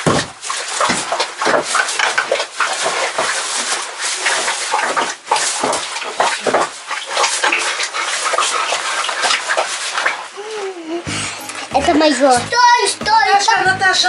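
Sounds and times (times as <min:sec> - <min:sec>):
rustling and splashing: 0:00.0 - 0:13.0.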